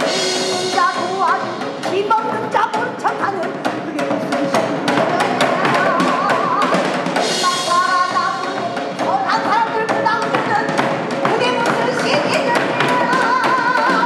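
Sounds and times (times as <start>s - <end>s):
sharp drum strokes: 0.0s - 14.0s
woman singing with vibrato: 0.0s - 14.0s.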